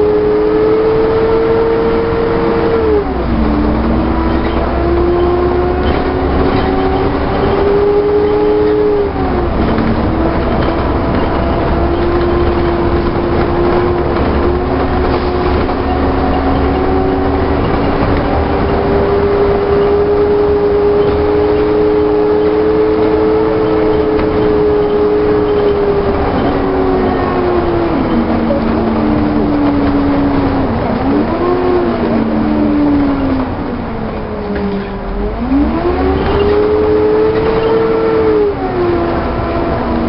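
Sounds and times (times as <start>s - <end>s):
bus engine and driveline whine: 0.0s - 40.0s.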